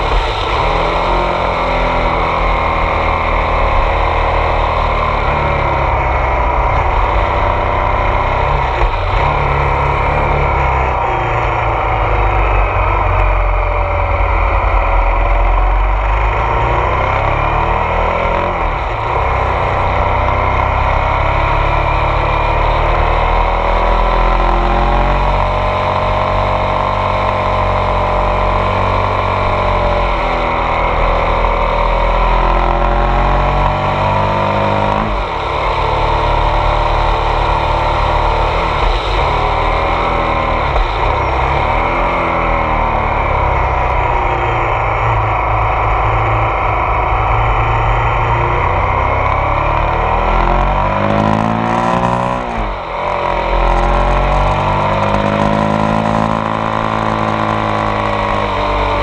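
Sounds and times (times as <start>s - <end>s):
motorcycle engine revving uphill: 0.0s - 59.0s.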